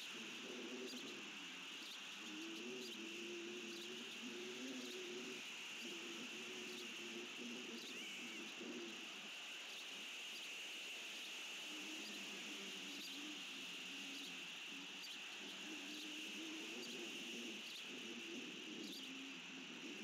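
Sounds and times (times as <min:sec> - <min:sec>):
low cooing calls: 0:00.1 - 0:09.3, 0:11.6 - 0:20.0.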